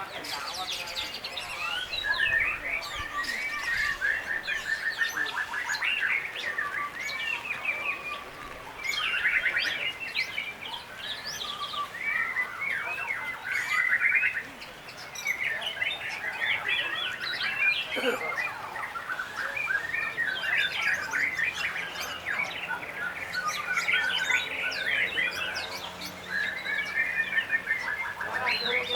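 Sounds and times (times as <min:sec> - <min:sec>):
bird singing whistled trills: 0:00.0 - 0:28.9.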